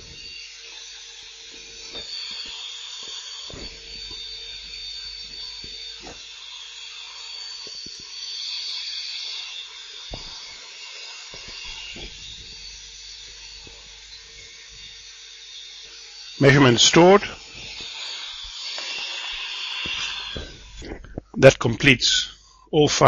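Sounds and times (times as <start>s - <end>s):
electric mixer whining: 0.0s - 21.4s.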